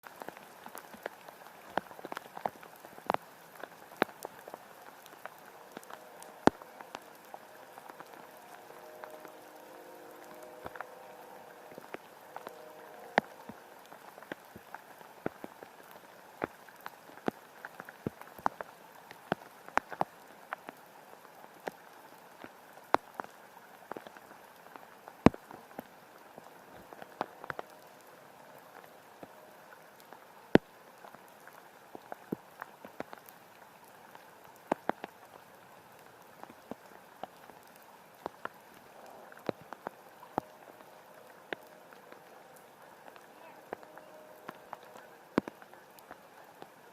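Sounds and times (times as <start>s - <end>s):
rain hiss: 0.0s - 46.9s
raindrops tapping: 0.0s - 46.9s.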